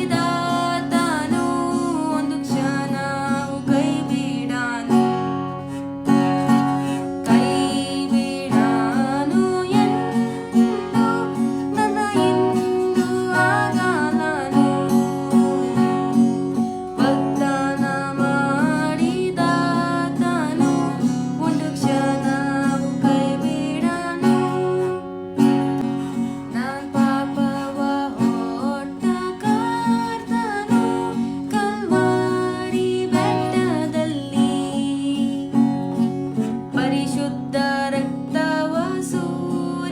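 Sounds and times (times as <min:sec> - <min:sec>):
person singing worship song: 0:00.0 - 0:05.2, 0:07.2 - 0:25.0, 0:25.8 - 0:35.6
strummed acoustic guitar: 0:00.0 - 0:39.9.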